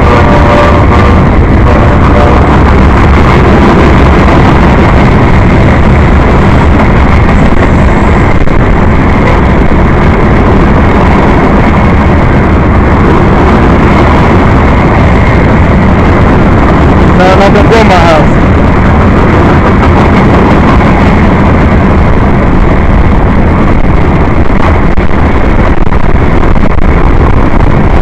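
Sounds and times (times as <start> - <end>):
freight train wheels roaring: 0.0 - 28.0.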